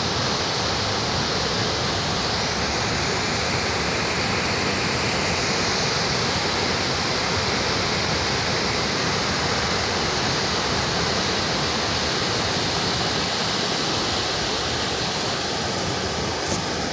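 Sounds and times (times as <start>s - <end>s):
waterfall rushing over rocks: 0.0s - 16.9s.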